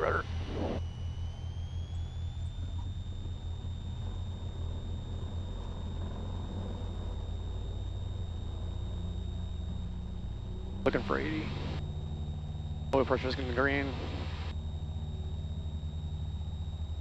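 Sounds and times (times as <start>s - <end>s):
propeller plane engine drone: 0.0s - 17.0s
thin high whine: 0.0s - 17.0s.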